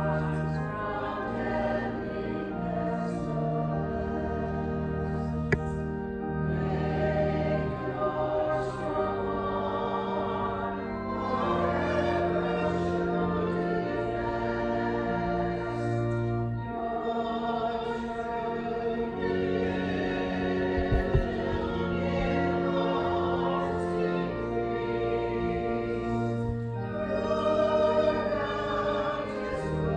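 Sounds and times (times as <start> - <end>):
voices singing a slow hymn: 0.0 - 29.9.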